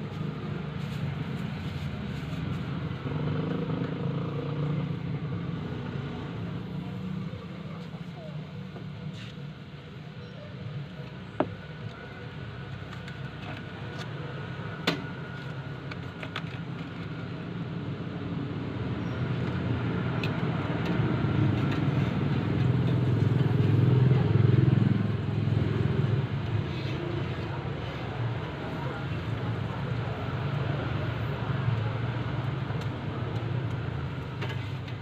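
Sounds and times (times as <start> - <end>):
road vehicle engine rumble: 0.0 - 35.0.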